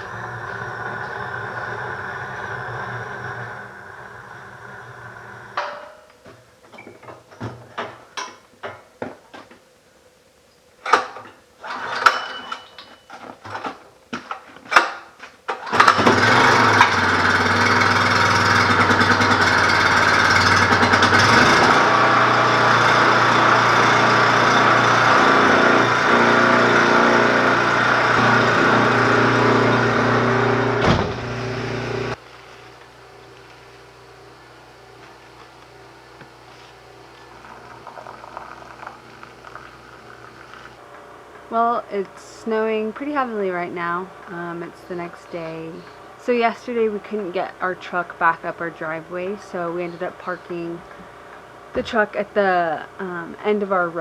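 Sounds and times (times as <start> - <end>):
engine running: 0.0 - 6.1, 15.6 - 54.0.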